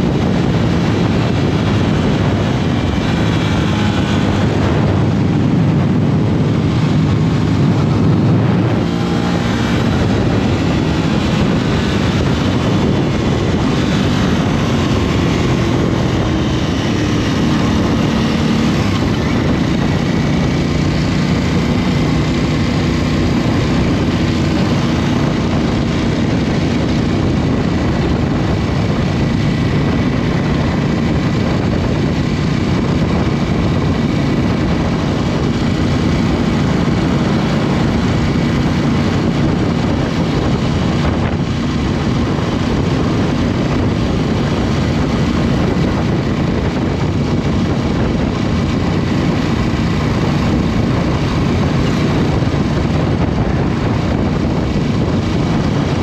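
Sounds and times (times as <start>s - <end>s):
motorcycle engine running steadily: 0.0s - 56.0s
wind rushing: 0.0s - 56.0s.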